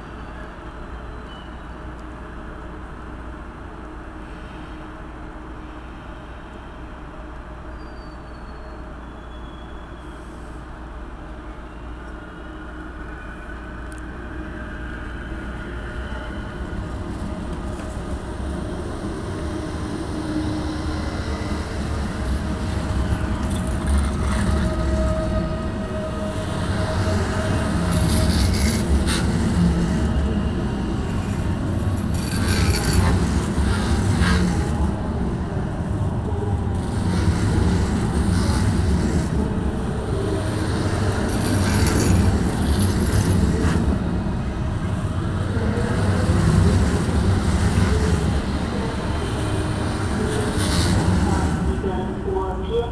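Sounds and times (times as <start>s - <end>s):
train rolling past: 0.0s - 52.9s.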